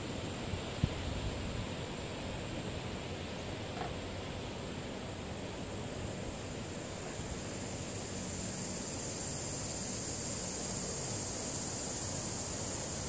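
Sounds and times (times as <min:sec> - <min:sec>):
light wind and rustling: 0:00.0 - 0:13.0.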